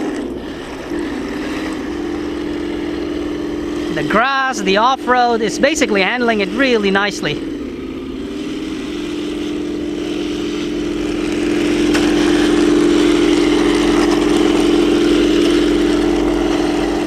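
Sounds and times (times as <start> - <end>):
simulated tank engine sound: 0.0 - 17.0
toy tank drive and tracks: 0.0 - 17.0.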